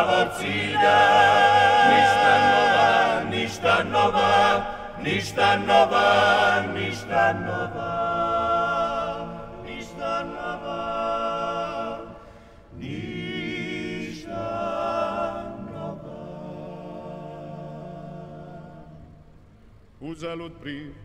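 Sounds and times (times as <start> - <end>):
male vocal group singing a cappella: 0.0 - 19.2, 20.0 - 21.0.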